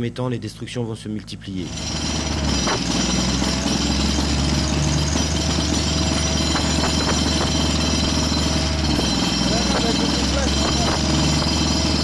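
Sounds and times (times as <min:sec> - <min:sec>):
fast mechanical hammering: 0:01.6 - 0:12.0
heavy machinery engine running: 0:01.6 - 0:12.0.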